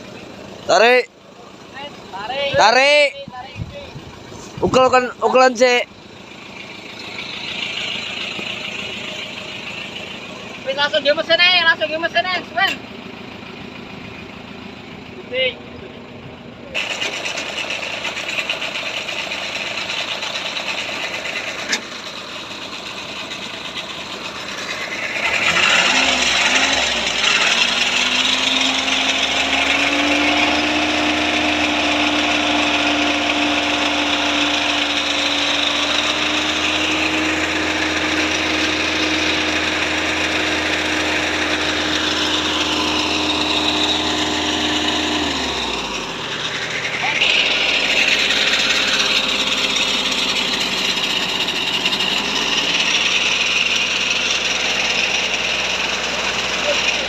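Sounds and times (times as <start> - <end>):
truck engine revving under load: 0.0 - 57.0
loud rough noise: 1.7 - 57.0.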